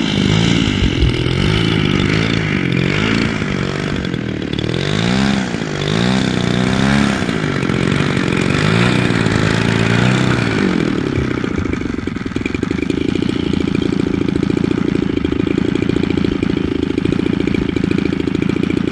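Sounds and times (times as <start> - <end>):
model plane engine revving: 0.0 - 18.9.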